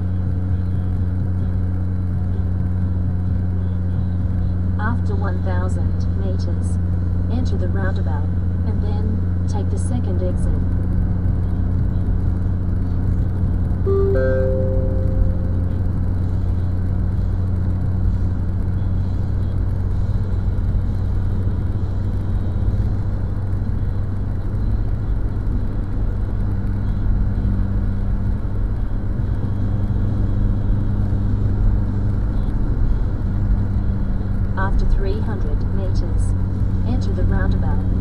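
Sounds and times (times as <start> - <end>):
car interior engine and road drone: 0.0 - 38.0.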